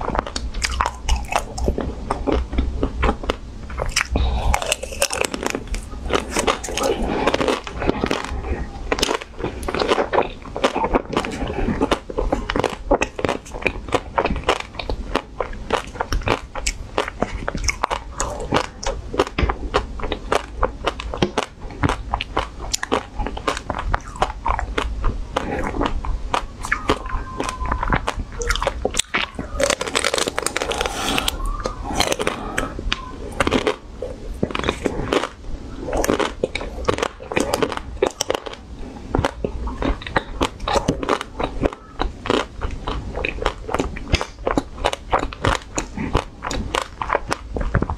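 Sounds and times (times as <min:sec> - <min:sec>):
crunching bites and chewing: 0:00.0 - 0:47.9.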